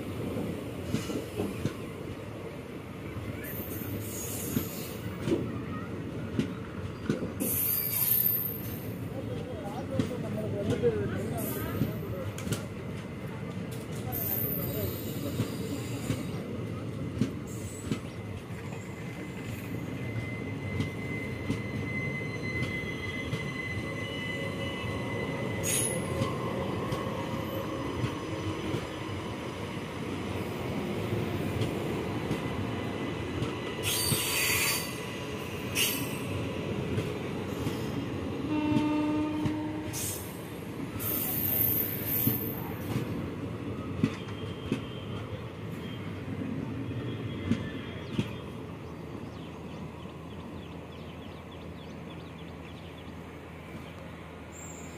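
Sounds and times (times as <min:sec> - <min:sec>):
train wheels rumbling on rail: 0:00.0 - 0:54.9
rail joint clicks: 0:00.2 - 0:02.3, 0:03.4 - 0:05.5, 0:06.3 - 0:24.1, 0:24.8 - 0:54.9.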